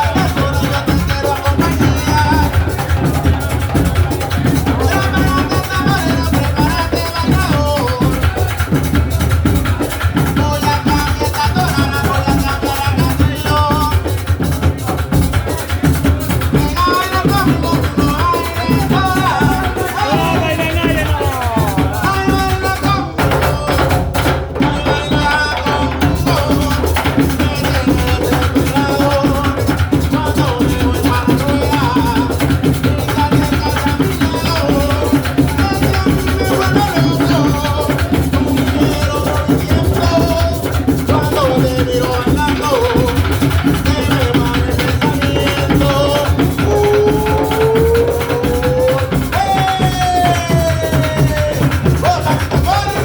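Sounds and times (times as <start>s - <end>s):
drums and rattles beating: 0.0s - 53.0s.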